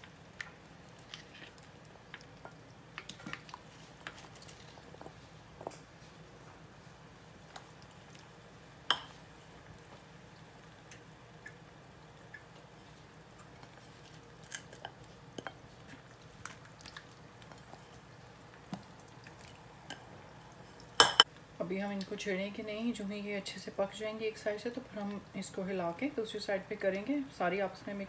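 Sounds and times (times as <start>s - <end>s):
crackles and pops of frying: 0.0s - 28.0s
fries frying in oil: 0.0s - 28.0s.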